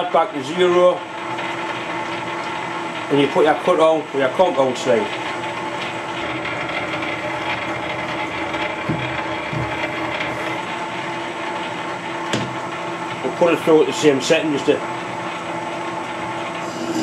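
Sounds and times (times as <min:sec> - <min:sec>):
lathe gear whine: 0:00.0 - 0:17.0.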